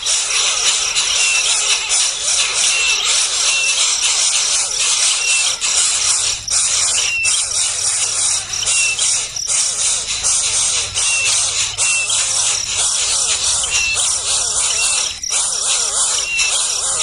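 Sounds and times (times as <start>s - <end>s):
baby birds calling shrilly: 0.0s - 17.0s.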